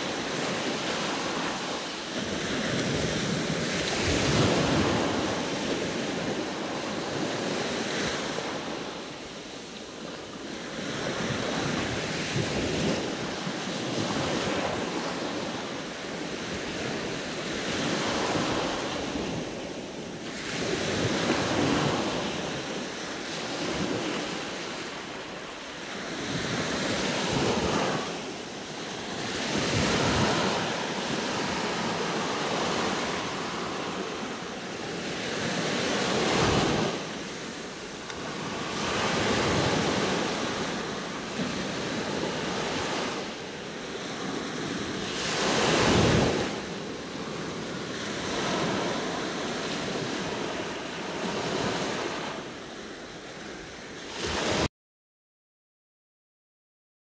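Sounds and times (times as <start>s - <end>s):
sea waves washing on shore: 0.0s - 54.7s.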